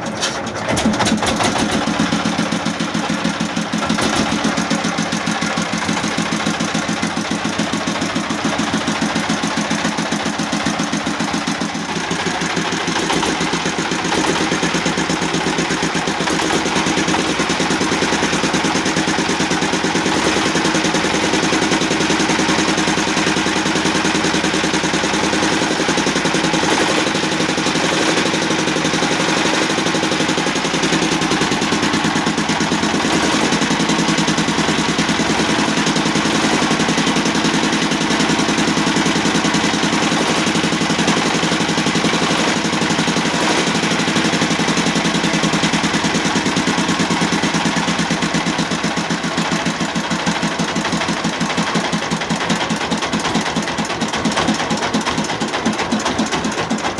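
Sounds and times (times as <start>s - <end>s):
diesel boat engine running: 0.0s - 56.9s.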